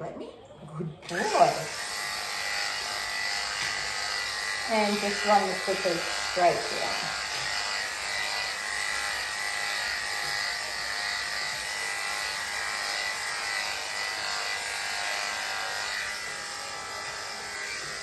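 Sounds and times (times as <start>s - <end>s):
electric clippers buzzing: 1.0s - 18.0s.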